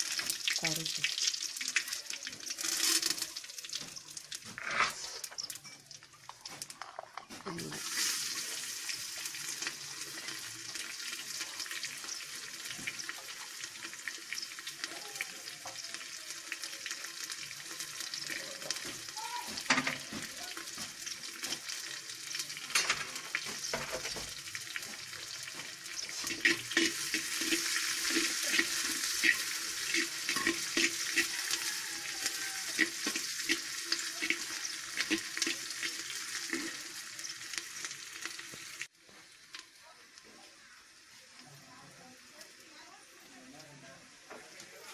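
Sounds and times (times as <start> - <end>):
shallots sizzling in hot oil: 0.0 - 44.9.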